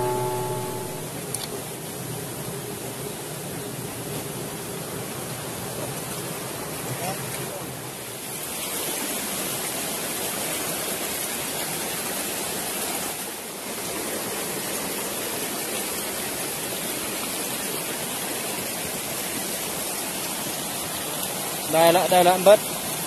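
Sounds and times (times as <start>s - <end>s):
stream rushing over rocks: 4.0s - 23.0s.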